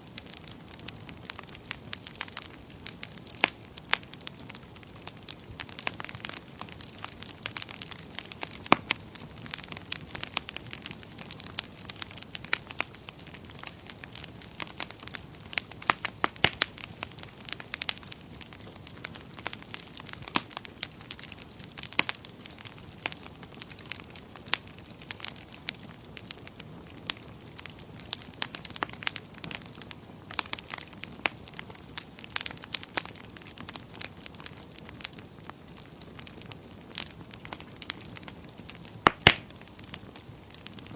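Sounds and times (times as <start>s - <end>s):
fire popping and snapping: 0.0s - 40.9s
wood fire crackling: 0.0s - 40.9s.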